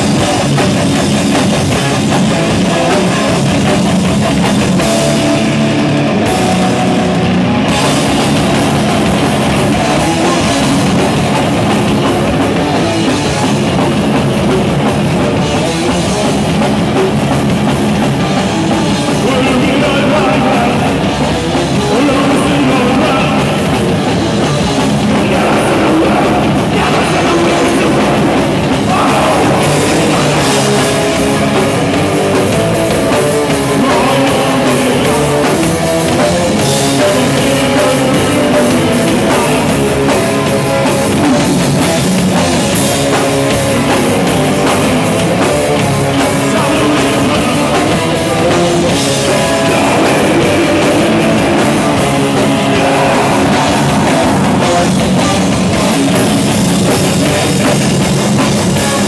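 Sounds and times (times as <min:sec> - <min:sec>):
thrash metal band playing live: 0:00.0 - 0:59.0.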